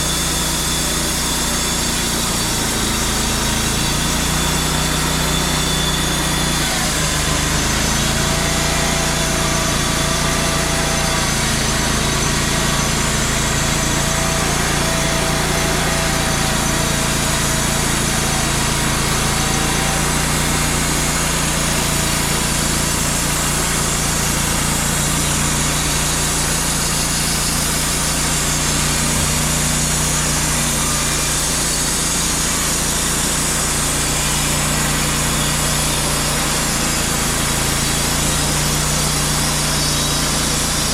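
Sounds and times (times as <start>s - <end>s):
band sawmill running: 0.0s - 40.9s.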